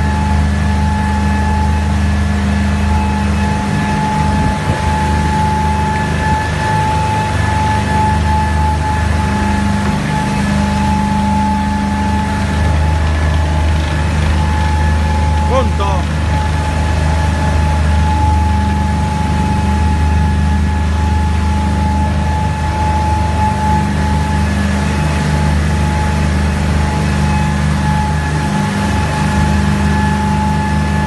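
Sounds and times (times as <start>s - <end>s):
deep boat engine drone: 0.0s - 31.0s
rush of wind and water: 0.0s - 31.0s
steady high whine: 0.0s - 31.0s.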